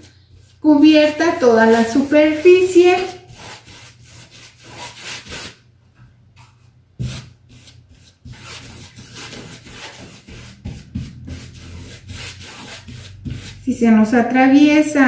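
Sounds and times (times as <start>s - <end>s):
paintbrush rubbing on canvas: 0.0s - 5.6s, 7.0s - 13.7s.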